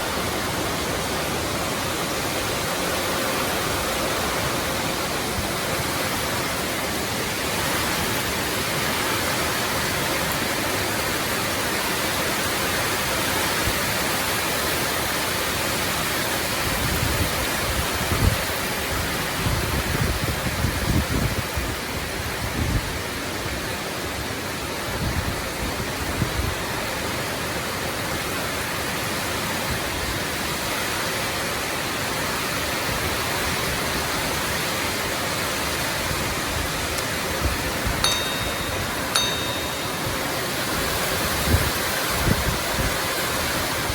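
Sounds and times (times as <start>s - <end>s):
heavy rain pouring: 0.0s - 38.1s, 40.0s - 43.9s.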